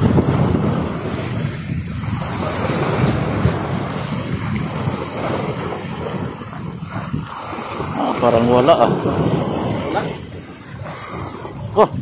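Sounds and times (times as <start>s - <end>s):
sea water washing: 0.0s - 12.0s
wind buffeting microphone: 0.0s - 12.0s.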